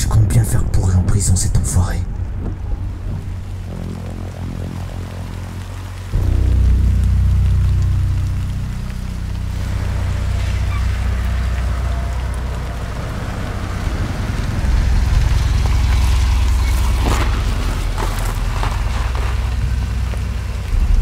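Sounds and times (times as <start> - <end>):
deep steady rumble: 0.0 - 21.0.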